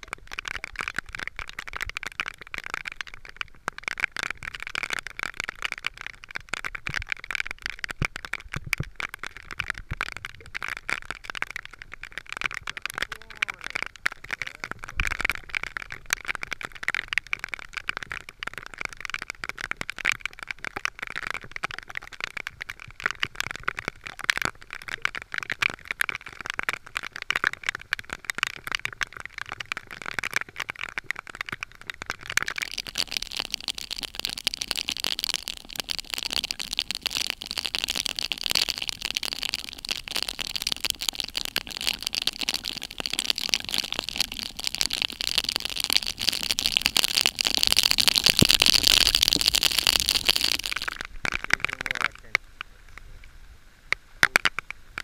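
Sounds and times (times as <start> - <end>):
heavy rain pattering: 0.0 - 53.2.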